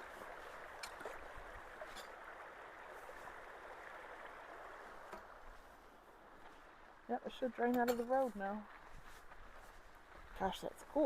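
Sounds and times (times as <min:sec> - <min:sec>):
water rushing and gurgling: 0:00.0 - 0:11.0.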